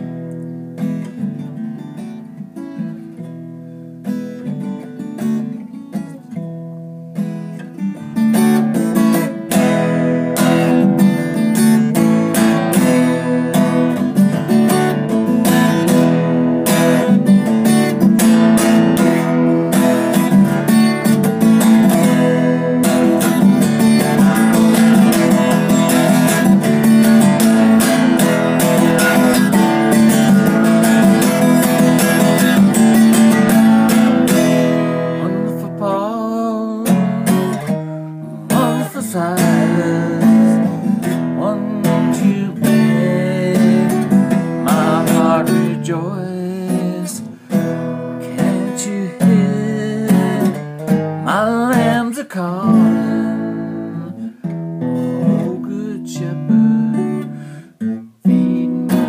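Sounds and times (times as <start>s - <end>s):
acoustic guitar strummed and picked: 0.0s - 59.0s.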